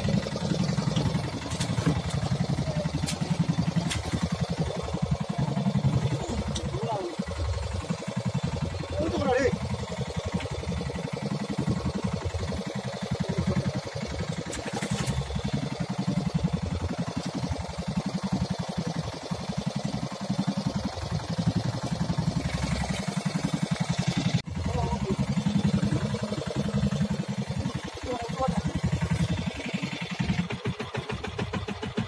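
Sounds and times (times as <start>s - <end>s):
boat engine chugging: 0.0s - 32.0s.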